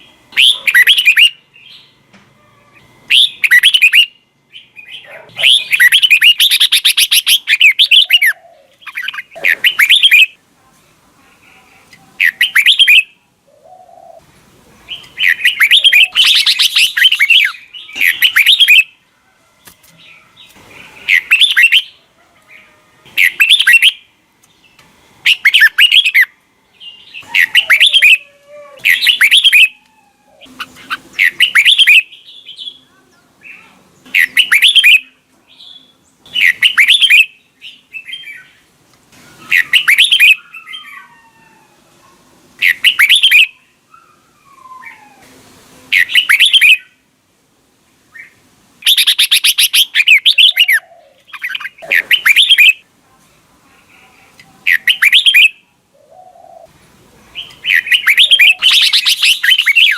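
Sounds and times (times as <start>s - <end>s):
bird song phrases: 0.0s - 10.4s, 11.2s - 19.0s, 19.6s - 41.3s, 42.0s - 47.0s, 48.1s - 59.9s.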